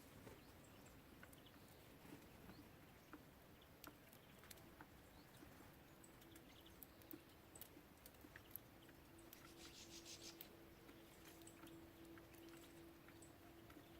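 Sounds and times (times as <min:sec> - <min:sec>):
birds pecking seed: 0:00.0 - 0:13.9.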